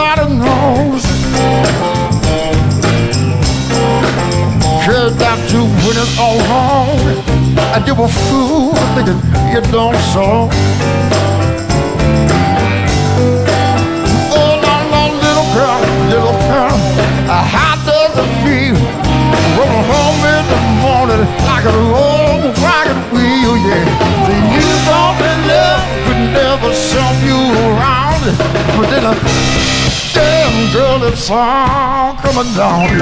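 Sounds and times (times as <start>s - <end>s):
man singing with vibrato: 0.0s - 1.7s, 4.6s - 10.8s, 14.0s - 33.0s
drums: 0.0s - 33.0s
keyboard: 0.0s - 33.0s.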